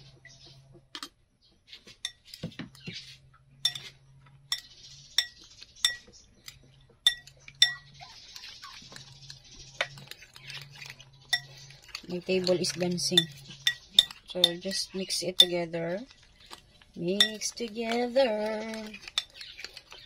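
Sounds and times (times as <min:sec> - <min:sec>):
utensil clinking against bowl: 0:02.0 - 0:02.4, 0:03.6 - 0:15.9, 0:16.5 - 0:20.0.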